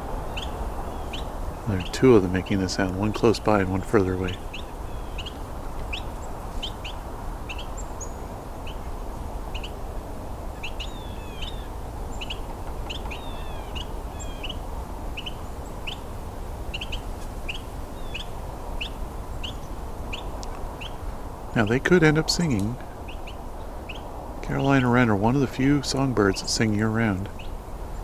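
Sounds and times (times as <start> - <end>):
wrens calling: 0.0 - 28.0.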